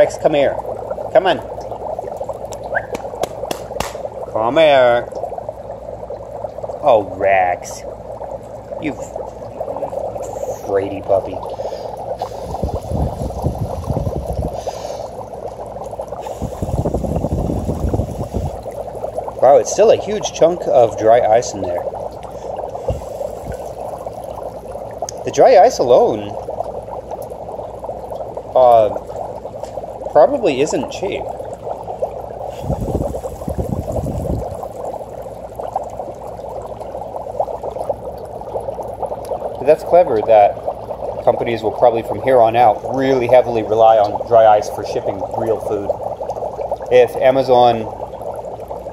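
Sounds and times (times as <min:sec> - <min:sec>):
dry ice bubbling in water: 0:00.0 - 0:48.9.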